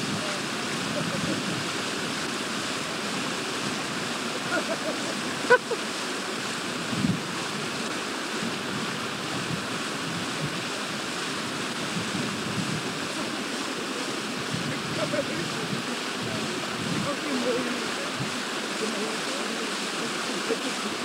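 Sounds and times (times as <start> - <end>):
wind and water on microphone: 0.0 - 21.0.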